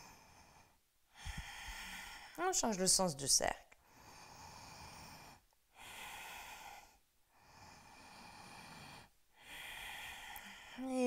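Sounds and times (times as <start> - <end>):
woman breathing through throat: 0.0 - 2.4, 3.8 - 10.9.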